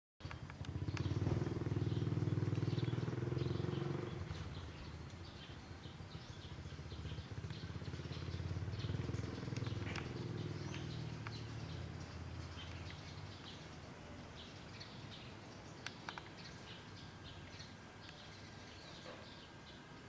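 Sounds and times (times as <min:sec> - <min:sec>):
birds chirping: 0:00.2 - 0:20.0
engine running with fast pulse: 0:00.2 - 0:20.0.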